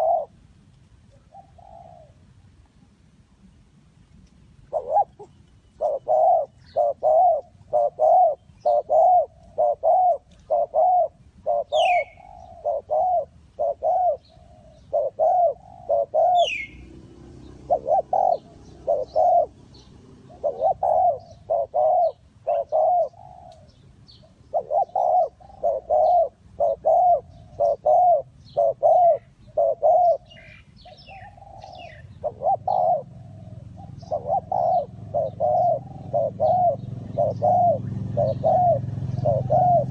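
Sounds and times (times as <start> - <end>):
dove cooing: 0.0 - 0.4, 1.1 - 2.6, 4.6 - 39.9
small birds chirping: 4.6 - 39.9.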